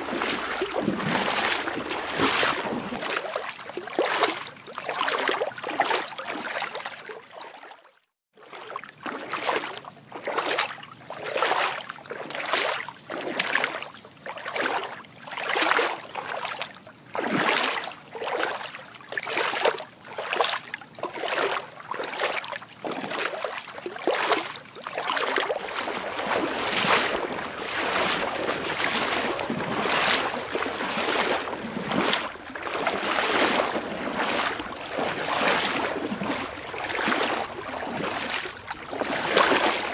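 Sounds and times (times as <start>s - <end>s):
water sloshing: 0.0s - 7.7s, 8.4s - 39.9s.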